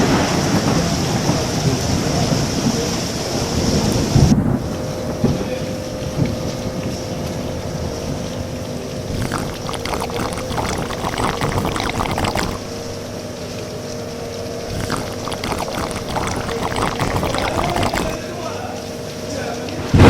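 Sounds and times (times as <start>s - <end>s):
faint steady hum: 0.0s - 20.0s
rain falling and splashing: 0.0s - 20.0s.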